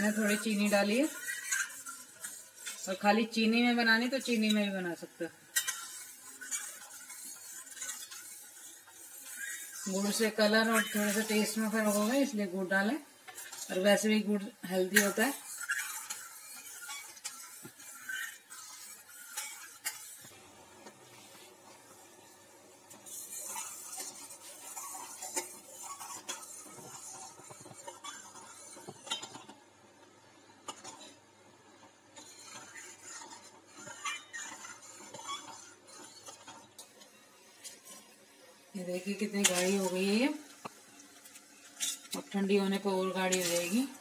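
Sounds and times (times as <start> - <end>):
ladle stirring and scraping chutney: 0.0 - 21.6, 22.9 - 38.2, 38.8 - 44.0.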